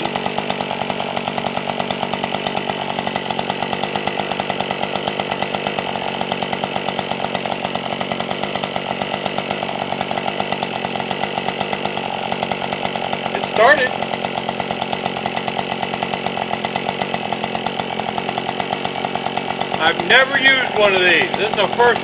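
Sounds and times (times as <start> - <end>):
two-stroke auger engine idling: 0.0 - 22.0.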